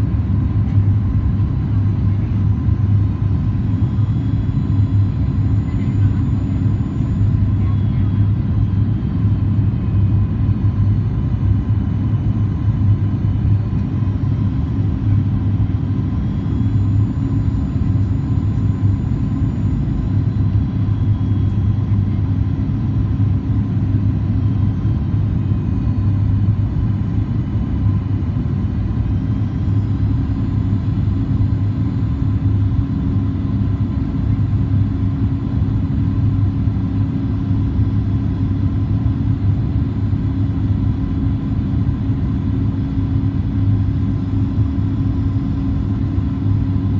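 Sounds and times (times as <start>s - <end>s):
airplane cabin drone: 0.0s - 46.9s.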